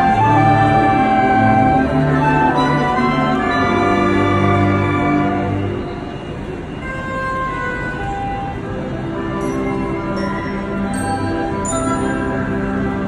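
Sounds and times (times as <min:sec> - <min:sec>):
wind band playing chords: 0:00.0 - 0:13.0.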